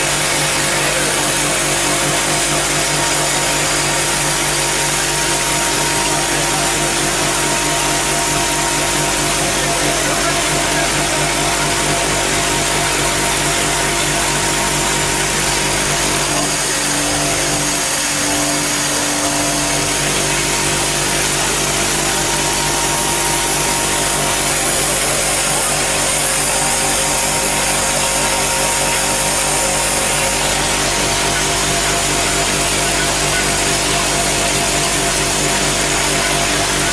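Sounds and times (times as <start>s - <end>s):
bowl feeder hum: 0.0s - 36.9s.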